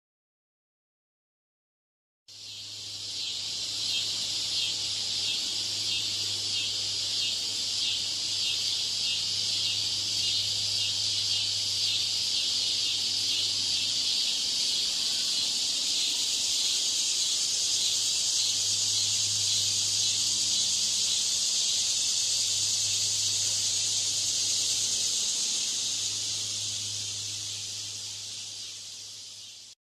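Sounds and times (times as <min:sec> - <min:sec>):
cicadas buzzing: 0:02.3 - 0:29.8.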